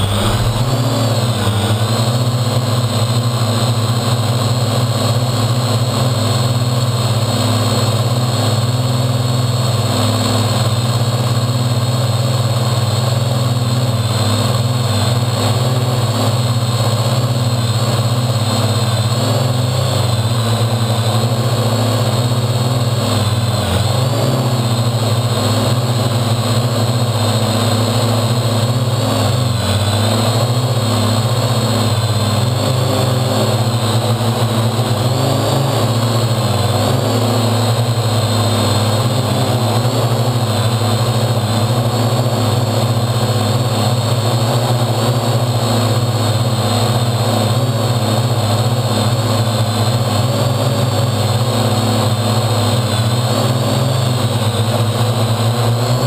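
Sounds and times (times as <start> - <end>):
drone motors buzzing with whine: 0.0 - 56.0.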